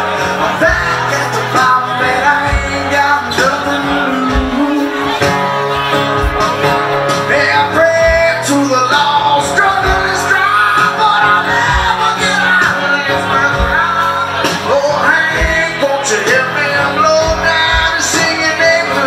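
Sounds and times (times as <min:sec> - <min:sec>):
drums keeping slow beat: 0:00.0 - 0:19.0
man singing: 0:00.0 - 0:19.0
strummed acoustic guitar: 0:00.0 - 0:19.0.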